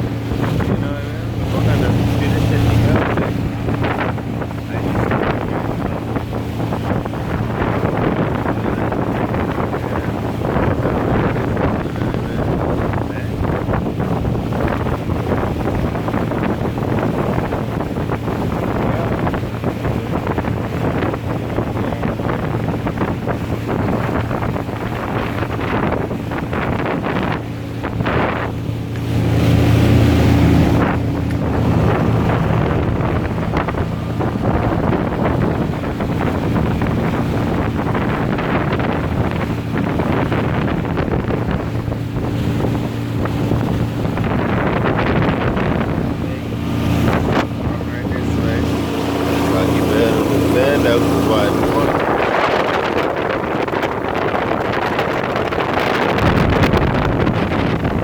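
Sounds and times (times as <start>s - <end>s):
motorboat engine running: 0.0s - 58.0s
water rushing past hull: 0.0s - 58.0s
wind buffeting microphone: 0.0s - 58.0s.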